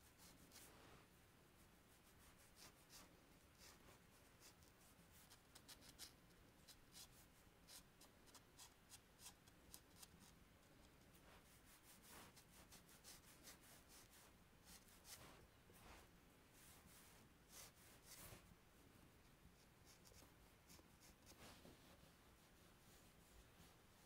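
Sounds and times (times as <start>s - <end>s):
chalk scratching on paper: 0.0s - 0.8s, 1.9s - 18.5s, 19.6s - 24.0s.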